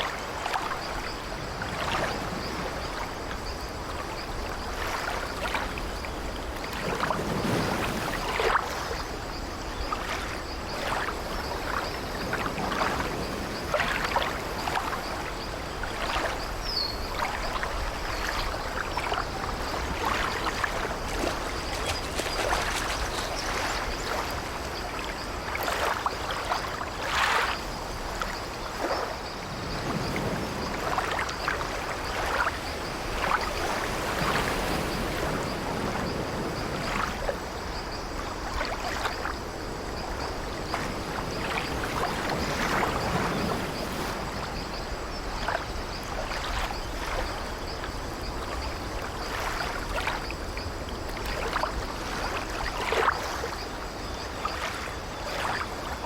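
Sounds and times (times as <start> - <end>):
water sloshing against ship: 0.0 - 56.0.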